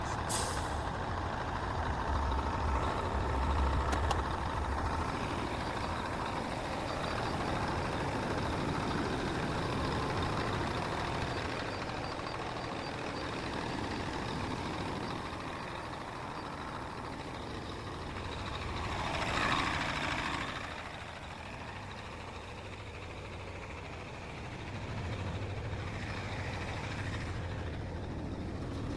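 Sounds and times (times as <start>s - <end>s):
diesel truck engine running: 0.0s - 28.9s.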